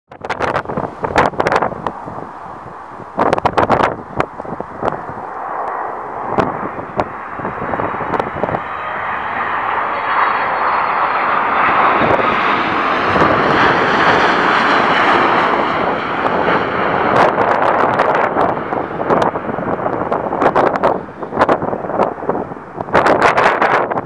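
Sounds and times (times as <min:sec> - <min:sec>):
jet engines roaring: 0:00.2 - 0:24.0.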